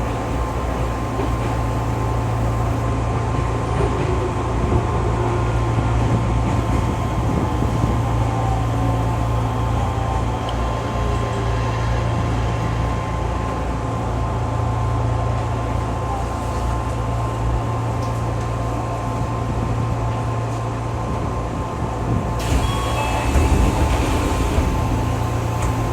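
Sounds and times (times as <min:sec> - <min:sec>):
train running gear rumble: 0:00.0 - 0:25.9.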